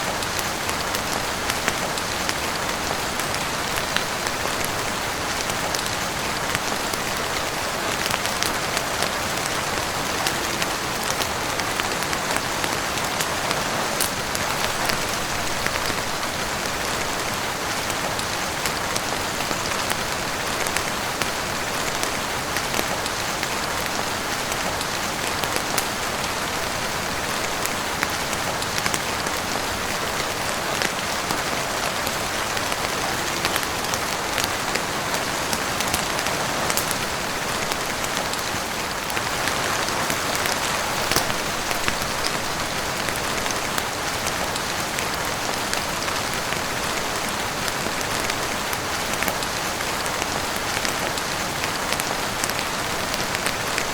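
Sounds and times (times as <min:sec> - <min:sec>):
heavy rain on roof and windows: 0:00.0 - 0:53.9.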